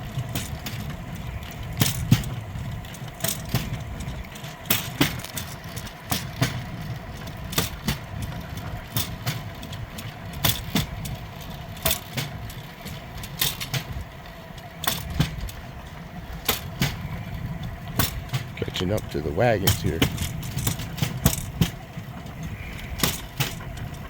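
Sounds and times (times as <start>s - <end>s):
steel wheels rumbling on rails: 0.0s - 24.0s
wheels clicking over rail joints: 0.0s - 24.0s.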